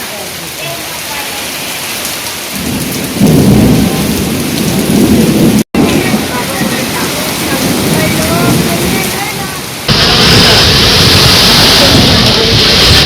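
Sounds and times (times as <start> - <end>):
wind gusting against microphone: 2.4 - 13.0.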